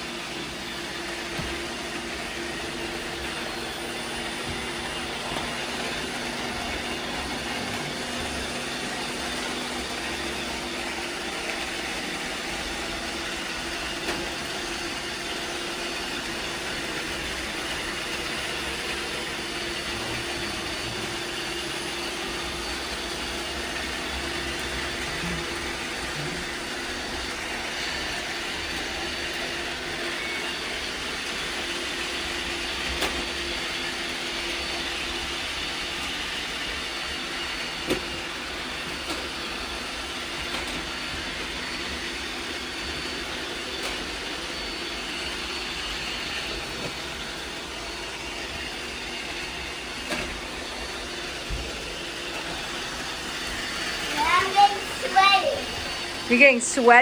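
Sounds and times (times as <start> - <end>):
robot vacuums whirring: 0.0 - 57.0.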